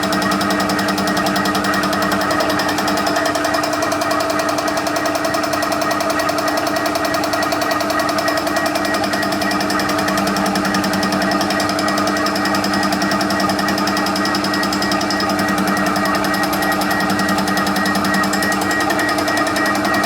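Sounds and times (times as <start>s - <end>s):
milling machine hum: 0.0s - 20.0s.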